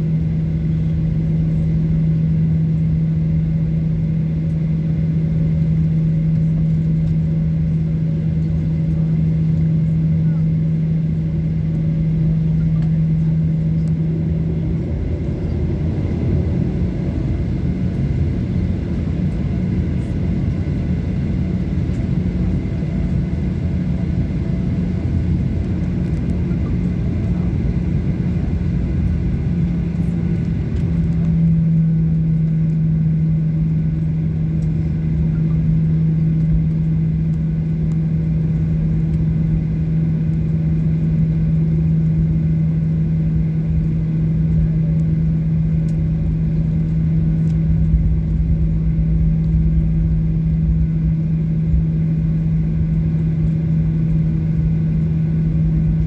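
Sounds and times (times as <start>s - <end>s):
airplane cabin engine hum: 0.0s - 56.0s
continuous rumble: 0.0s - 56.0s.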